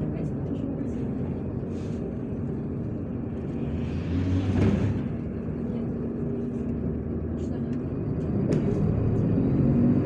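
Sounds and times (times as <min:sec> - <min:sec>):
city bus running: 0:00.0 - 0:10.0.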